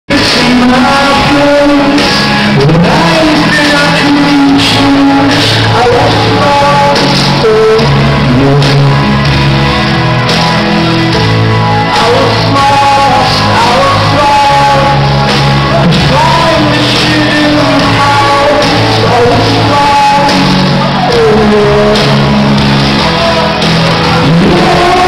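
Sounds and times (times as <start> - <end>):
rock song with singing: 0.1 - 25.0.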